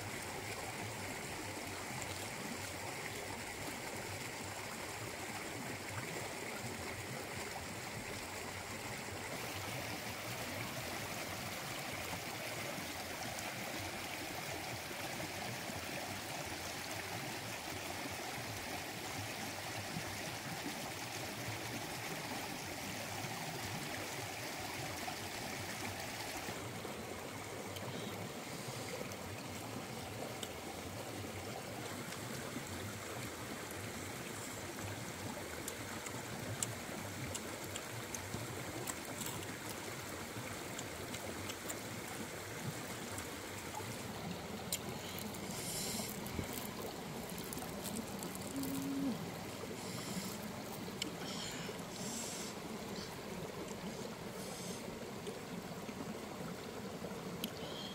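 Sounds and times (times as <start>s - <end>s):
stream running over rocks: 0.0s - 57.9s.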